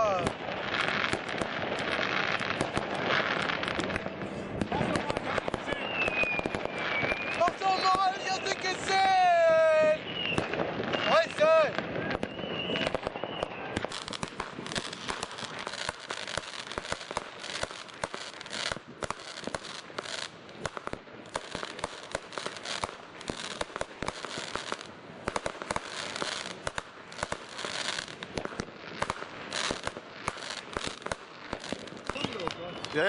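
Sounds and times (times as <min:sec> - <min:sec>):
fireworks crackling and bursting: 0:00.0 - 0:33.0.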